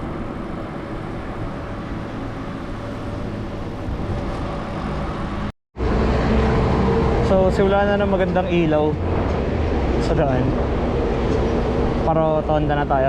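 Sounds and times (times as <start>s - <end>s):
road traffic noise: 0.0s - 13.0s
wind rumbling on microphone: 0.0s - 13.0s.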